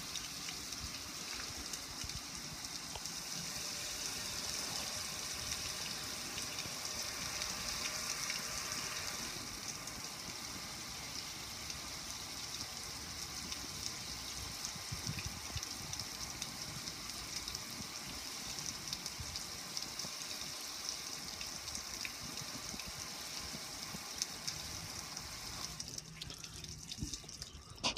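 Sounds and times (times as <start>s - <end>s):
water drips ticking: 0.0s - 27.9s
water pouring and splashing: 0.0s - 27.9s.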